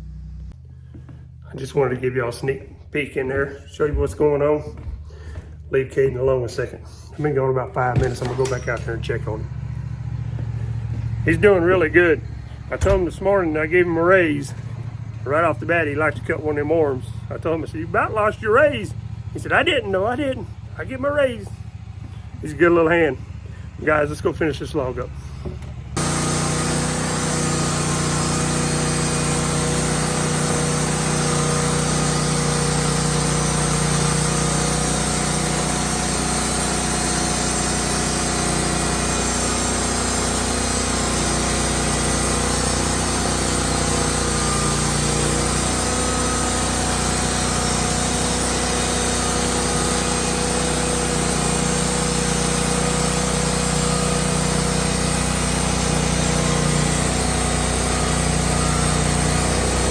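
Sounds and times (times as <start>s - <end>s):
band sawmill sawing log: 1.5s - 59.9s.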